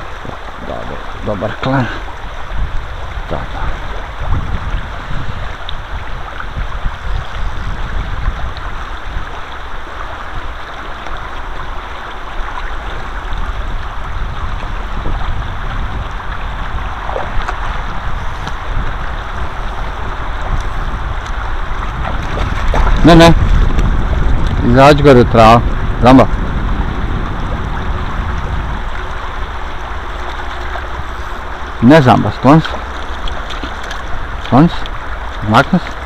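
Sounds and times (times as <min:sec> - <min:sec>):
flowing river: 0:00.0 - 0:36.0
wind buffeting microphone: 0:00.0 - 0:36.0.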